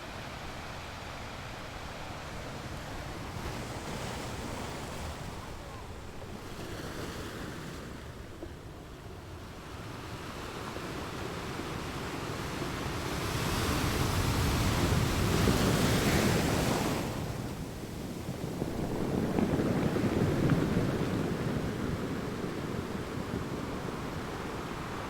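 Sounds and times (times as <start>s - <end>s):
ocean waves surf: 0.0s - 25.0s.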